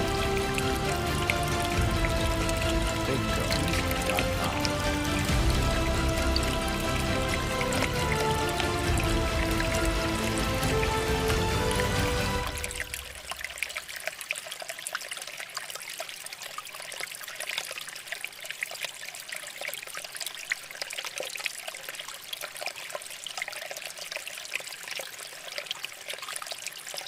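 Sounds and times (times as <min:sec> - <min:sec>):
water trickling from a fountain: 0:00.0 - 0:27.0.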